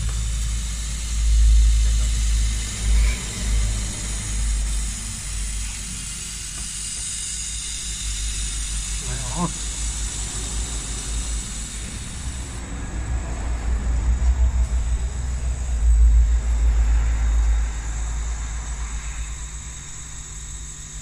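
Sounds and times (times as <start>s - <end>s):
laser engraving machine running: 0.0s - 21.0s.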